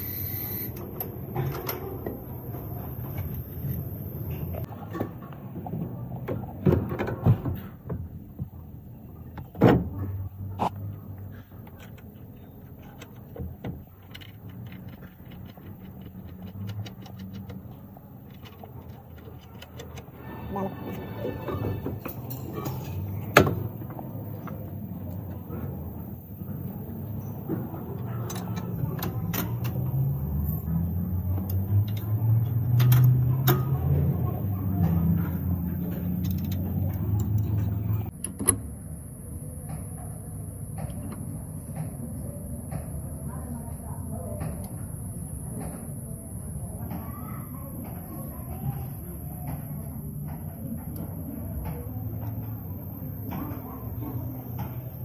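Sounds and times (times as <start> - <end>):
low machine hum: 0.0 - 6.7, 7.6 - 55.0.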